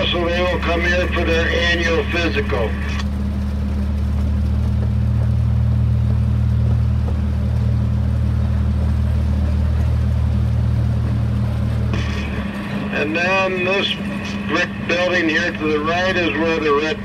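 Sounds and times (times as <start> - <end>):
small train engine droning: 0.0 - 17.0.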